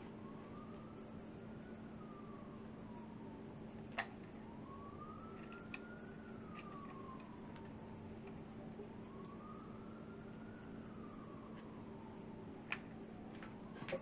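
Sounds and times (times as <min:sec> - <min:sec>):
distant siren wailing: 0:00.0 - 0:14.0
steady low hum: 0:00.0 - 0:14.0.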